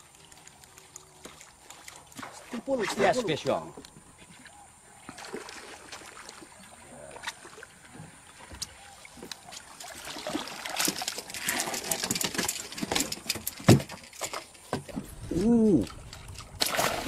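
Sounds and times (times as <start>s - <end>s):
water splashing: 0.0s - 3.6s, 5.1s - 17.0s.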